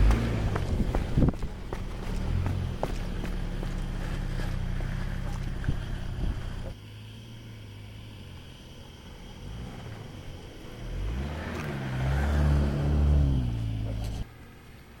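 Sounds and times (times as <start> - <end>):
car engine revving: 0.0 - 7.1, 8.9 - 14.3.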